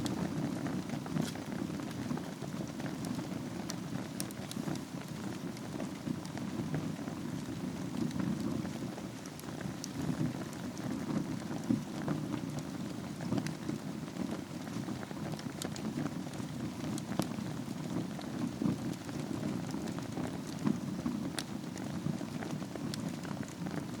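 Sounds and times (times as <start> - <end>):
fire crackling and popping: 0.0 - 24.0
fire flames rumbling: 0.0 - 24.0.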